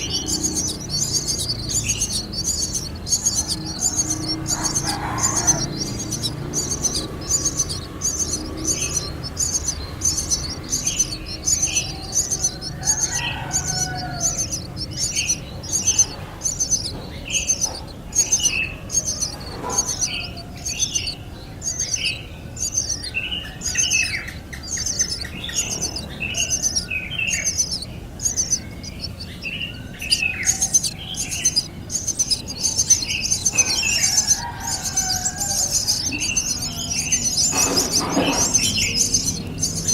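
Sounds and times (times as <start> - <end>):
lower bird chirps: 0.0 - 39.9
nestling birds begging calls: 0.0 - 39.9.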